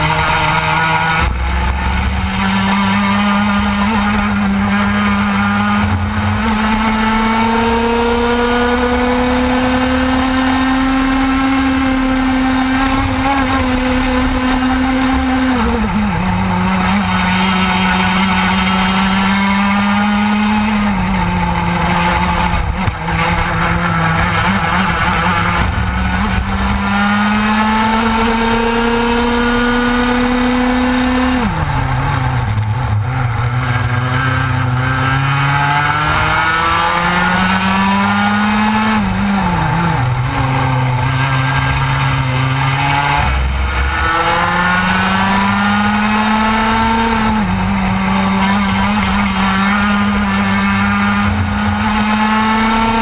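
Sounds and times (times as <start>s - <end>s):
racing kart engine: 0.0s - 53.0s.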